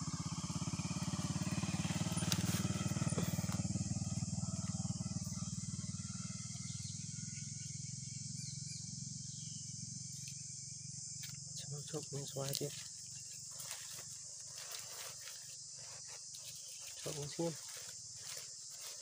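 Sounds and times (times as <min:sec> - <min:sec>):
engine puttering: 0:00.0 - 0:19.0
high insect drone: 0:00.0 - 0:19.0.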